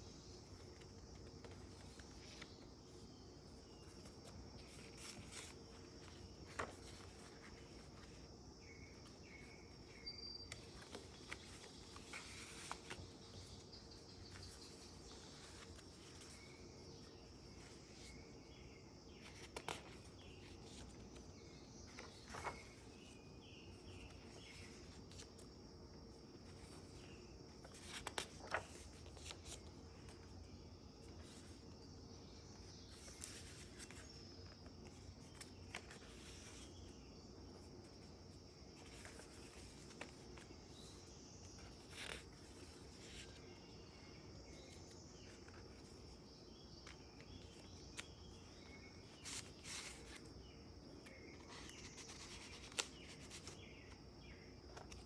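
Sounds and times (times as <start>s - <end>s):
low steady hiss: 0.0s - 55.0s
paper pages rustling: 0.1s - 55.0s.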